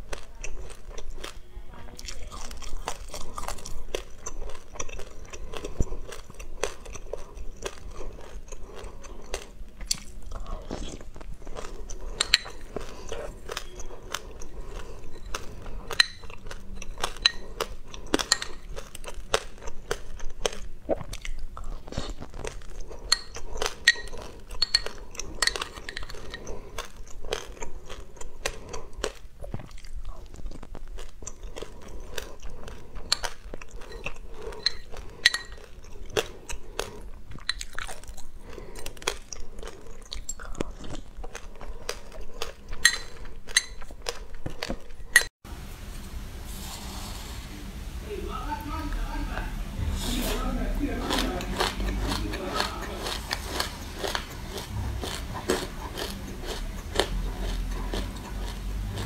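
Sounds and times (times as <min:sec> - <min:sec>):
chewing and crunching seeds: 0:00.0 - 0:45.3, 0:50.4 - 0:59.0.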